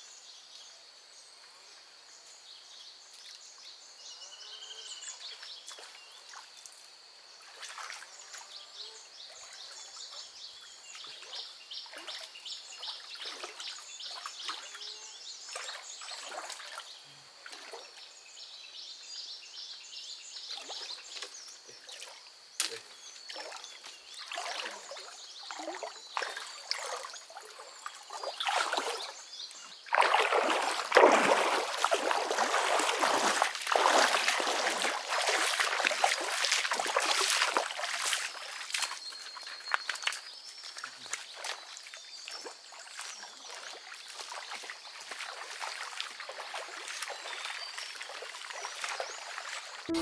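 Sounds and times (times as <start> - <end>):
water splashing and trickling: 5.0 - 19.2, 19.8 - 50.0.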